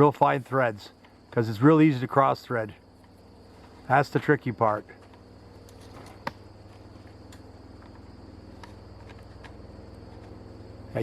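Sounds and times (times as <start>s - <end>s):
crickets trilling: 0.0s - 11.0s
low steady hum: 0.0s - 11.0s.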